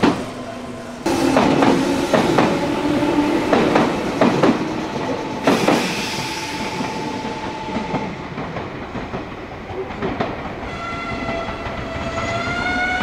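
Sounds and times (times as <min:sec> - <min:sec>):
train running hum: 0:00.0 - 0:13.0.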